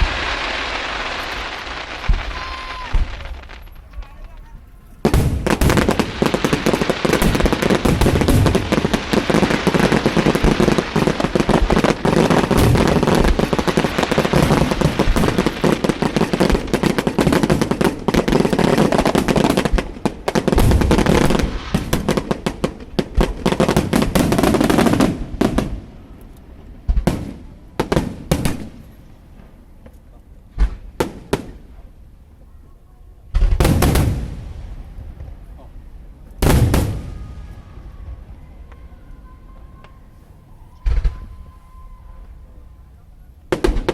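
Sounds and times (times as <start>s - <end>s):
fireworks bangs and crackling: 0.0s - 32.4s, 33.2s - 43.9s.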